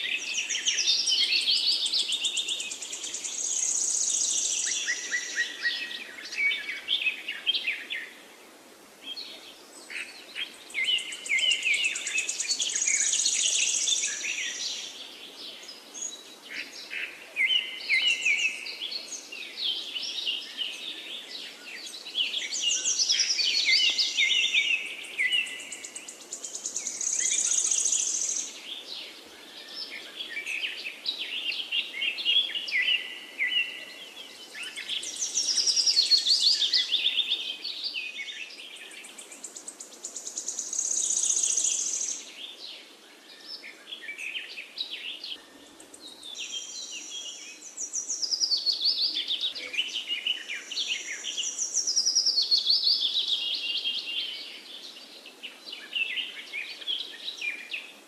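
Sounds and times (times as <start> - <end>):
faint forest ambience hiss: 0.0 - 58.0
songbirds singing: 0.0 - 58.0.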